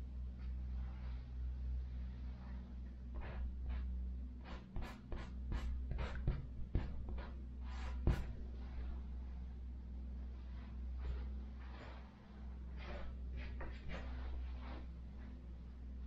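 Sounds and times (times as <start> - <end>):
low electrical hum: 0.0 - 16.0
paintbrush scratching on canvas: 2.2 - 9.4, 10.1 - 15.9.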